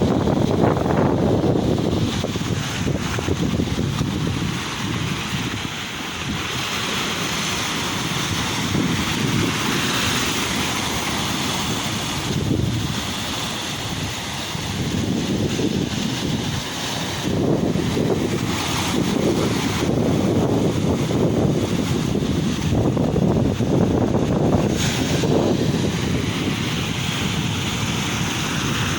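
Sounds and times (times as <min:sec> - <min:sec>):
sea waves washing on shore: 0:00.0 - 0:28.9
wind buffeting microphone: 0:00.0 - 0:28.9.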